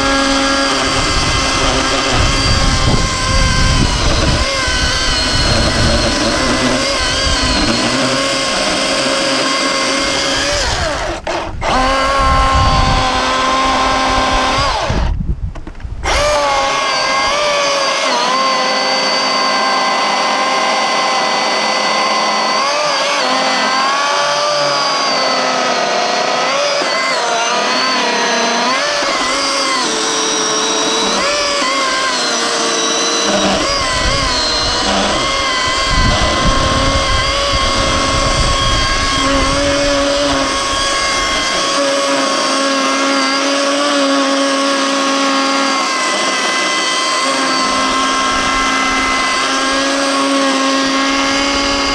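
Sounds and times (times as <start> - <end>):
cordless chainsaw cutting log: 0.0 - 51.9.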